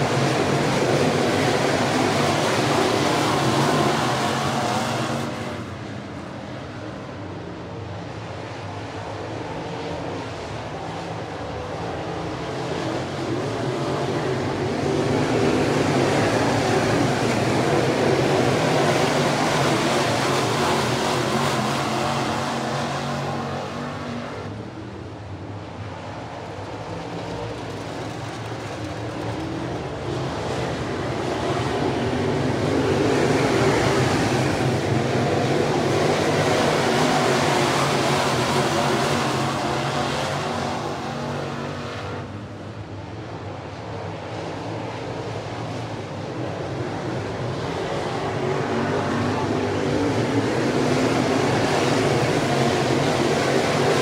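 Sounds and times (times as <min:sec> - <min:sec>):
race car engines running: 0:00.0 - 0:54.0.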